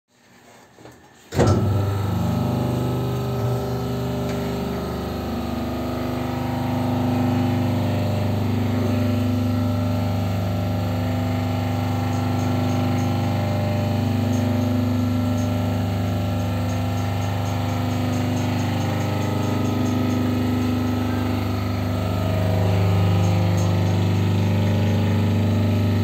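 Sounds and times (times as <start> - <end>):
machine motor hum: 1.3 - 26.0.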